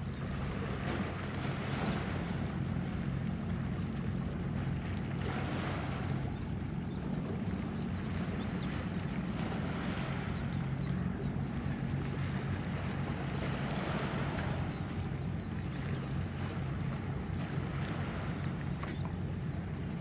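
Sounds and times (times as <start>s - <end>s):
ship diesel engine drone: 0.0s - 20.0s.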